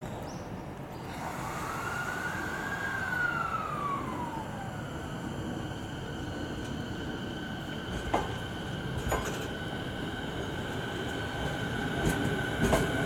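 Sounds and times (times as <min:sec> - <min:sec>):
low rumble of train: 0:00.0 - 0:13.0
electric train inverter whine: 0:00.1 - 0:13.0.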